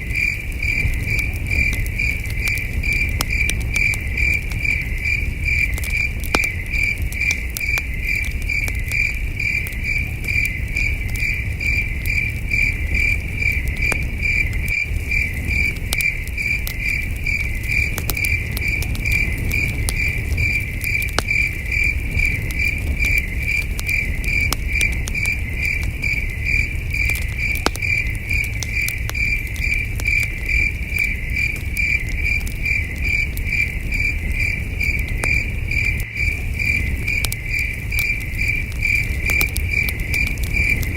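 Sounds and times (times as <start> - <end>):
campfire crackling: 0.0 - 40.9
crickets chirping: 0.0 - 40.9.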